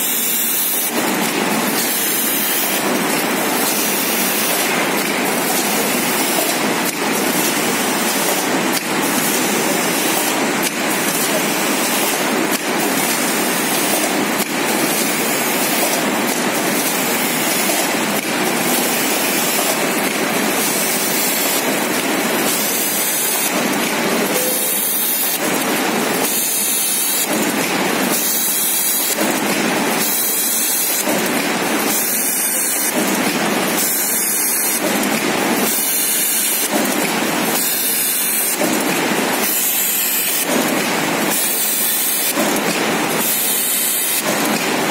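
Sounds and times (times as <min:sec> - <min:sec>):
sewing machine running: 0:00.0 - 0:44.9.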